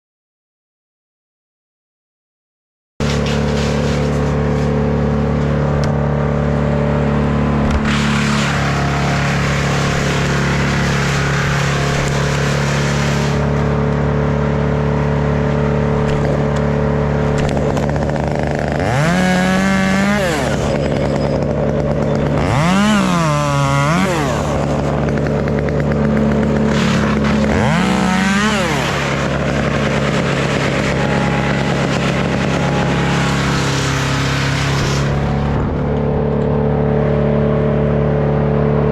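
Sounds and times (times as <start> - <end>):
chainsaw revving: 3.0 - 38.9.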